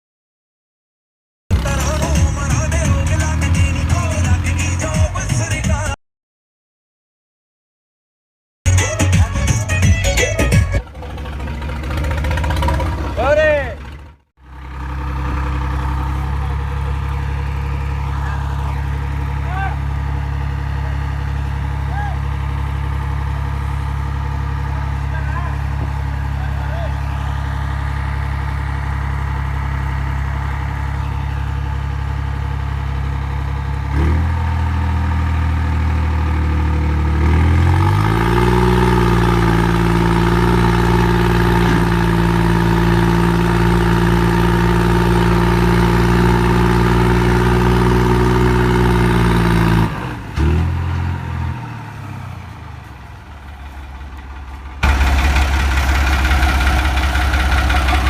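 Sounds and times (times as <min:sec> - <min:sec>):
another engine running: 0:01.5 - 0:06.0, 0:08.7 - 0:58.0
tractor engine revving: 0:01.5 - 0:06.0, 0:08.7 - 0:58.0.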